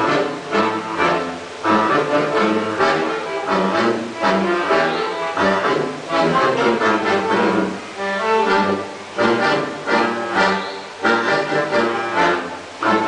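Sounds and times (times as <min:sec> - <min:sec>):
klezmer ensemble playing tango: 0:00.0 - 0:13.0.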